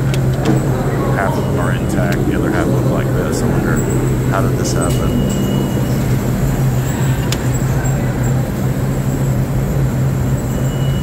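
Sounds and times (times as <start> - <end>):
faint high whine: 0.0 - 11.0
low hum of vehicle: 0.0 - 11.0.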